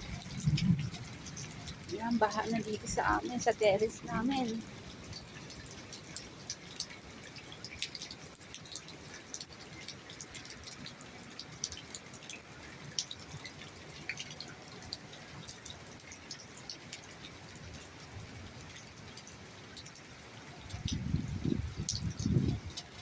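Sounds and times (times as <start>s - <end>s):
steady hiss of heavy rain: 0.0s - 23.0s
water drips splashing: 0.0s - 23.0s.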